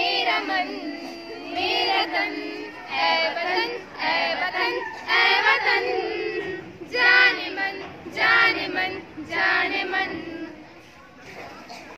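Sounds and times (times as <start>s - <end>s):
girls singing: 0.0s - 11.0s.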